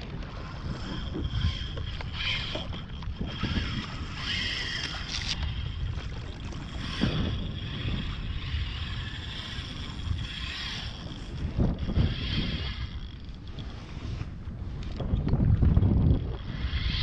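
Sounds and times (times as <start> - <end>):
water splashing against kayak: 0.0 - 16.6
wind buffeting microphone: 0.0 - 17.0.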